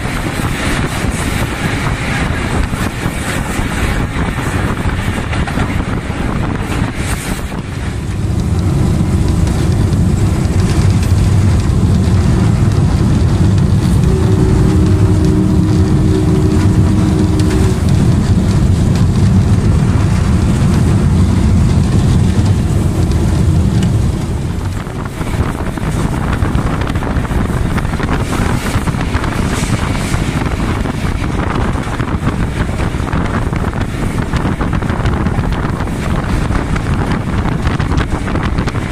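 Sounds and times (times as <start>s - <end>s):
locomotive engine droning: 0.0s - 38.9s
wheels rolling on rails: 0.0s - 38.9s
wind buffeting microphone: 0.0s - 38.9s.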